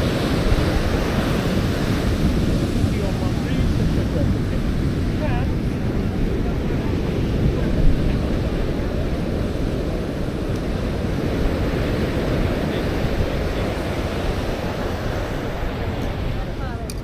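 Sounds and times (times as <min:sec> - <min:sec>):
ocean surf: 0:00.0 - 0:17.0
wind rumbling on microphone: 0:00.0 - 0:17.0.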